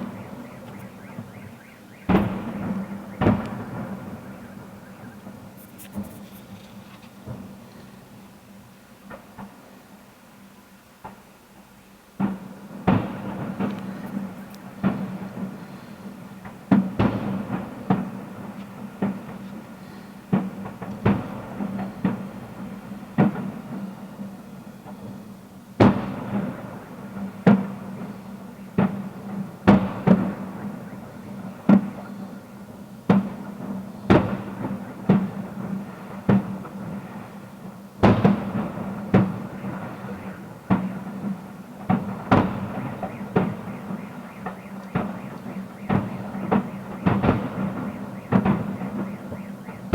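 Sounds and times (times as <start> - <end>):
fireworks booming: 0.0 - 9.7, 12.2 - 49.9.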